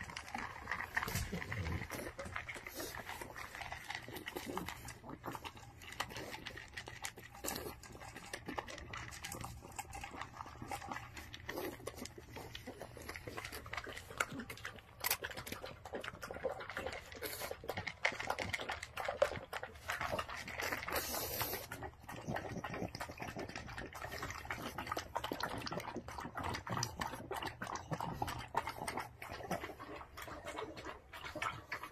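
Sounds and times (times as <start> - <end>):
dogs chewing and licking food: 0.0 - 31.9.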